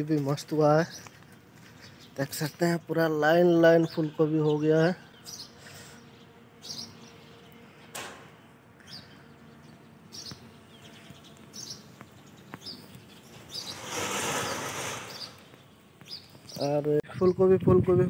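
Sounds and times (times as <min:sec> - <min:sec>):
small birds chirping: 0:00.0 - 0:17.6.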